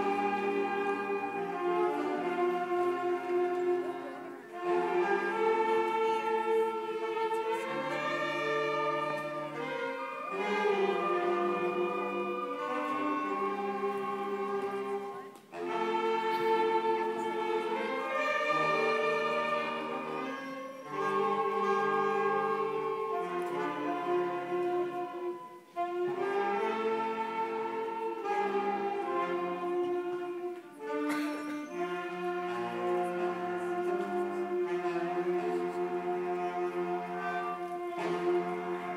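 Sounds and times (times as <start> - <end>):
school band playing chords: 0.0 - 38.9.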